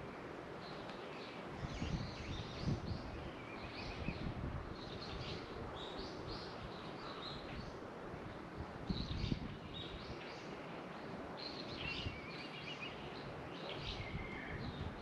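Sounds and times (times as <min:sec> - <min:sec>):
small birds chirping: 0:00.6 - 0:15.0.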